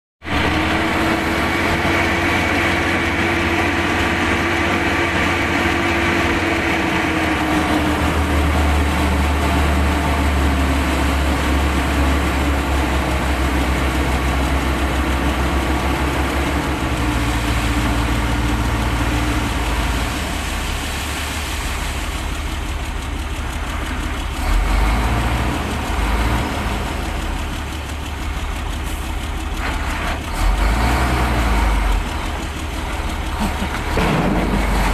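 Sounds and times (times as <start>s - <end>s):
diesel truck engine running: 0.3s - 34.9s.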